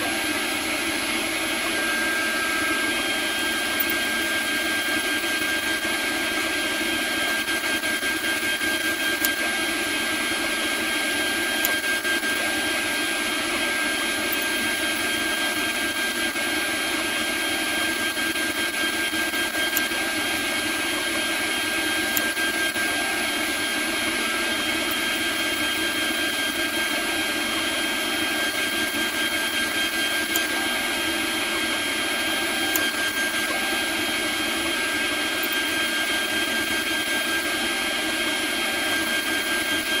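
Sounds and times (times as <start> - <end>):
router spindle whining: 0.0 - 40.0.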